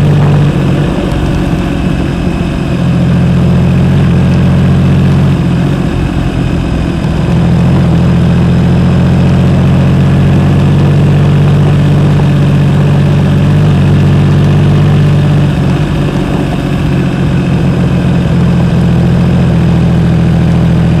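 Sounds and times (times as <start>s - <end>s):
motorcycle engine low drone: 0.0s - 21.0s.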